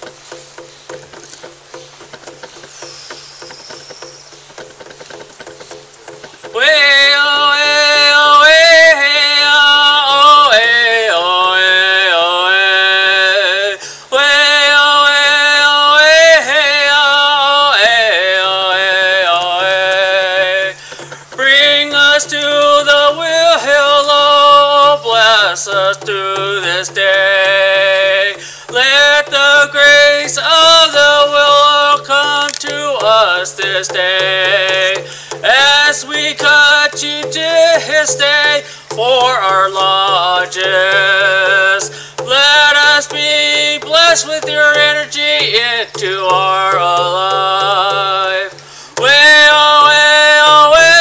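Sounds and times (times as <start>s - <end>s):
man singing wordless phrases: 6.5s - 51.0s.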